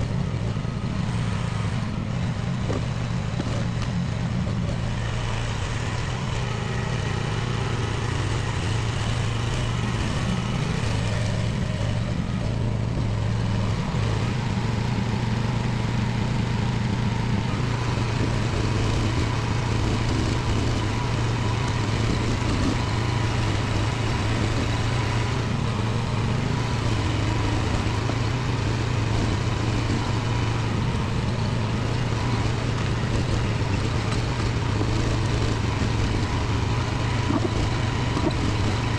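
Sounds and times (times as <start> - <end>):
small excavator engine running: 0.0 - 38.9.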